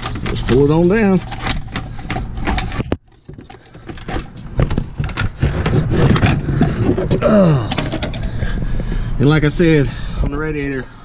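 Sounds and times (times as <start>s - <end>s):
fan assembly knocking and scraping: 0.0s - 10.5s.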